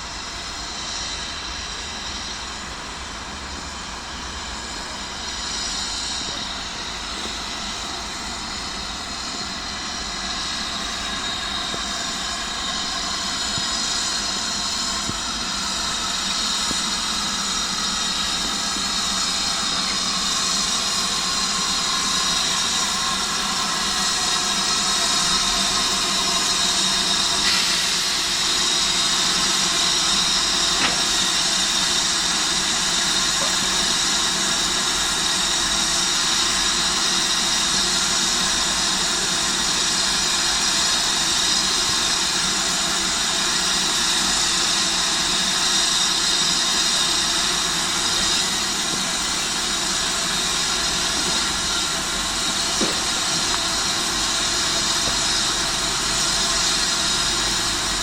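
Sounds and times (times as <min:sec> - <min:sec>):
locomotive engine humming: 0:00.0 - 0:58.0.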